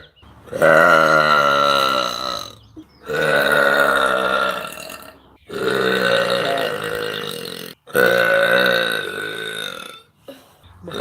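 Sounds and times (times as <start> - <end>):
woman burping: 0.5 - 11.0.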